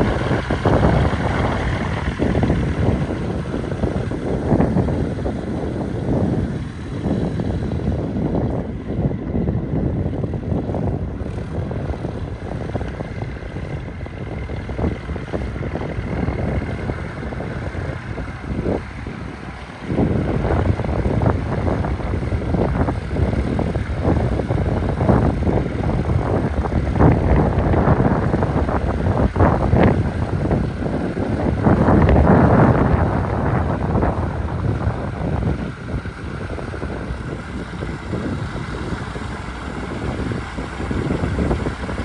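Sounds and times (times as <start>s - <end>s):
light aircraft engine and propeller: 0.0s - 42.0s
wind buffeting microphone: 0.0s - 42.0s.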